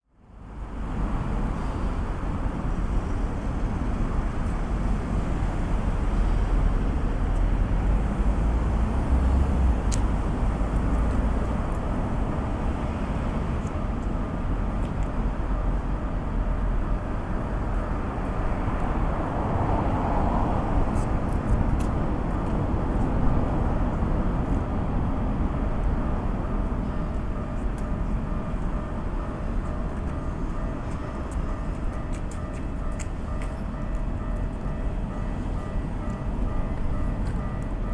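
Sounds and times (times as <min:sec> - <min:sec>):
low rumble of road traffic: 0:00.1 - 0:37.9.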